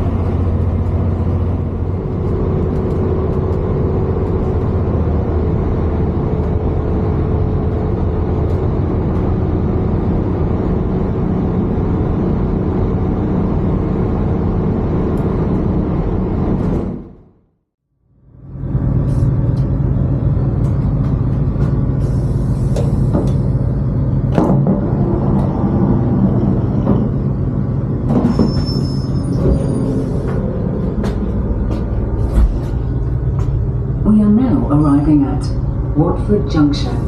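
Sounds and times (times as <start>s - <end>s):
train cabin rumble: 0.0s - 17.3s, 18.3s - 37.0s.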